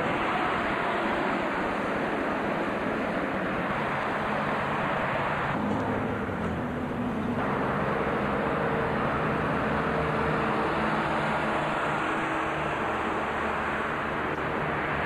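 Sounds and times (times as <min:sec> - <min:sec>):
cars passing: 0:00.0 - 0:15.0
low engine hum: 0:00.0 - 0:15.0
tyres hissing on road: 0:00.0 - 0:15.0.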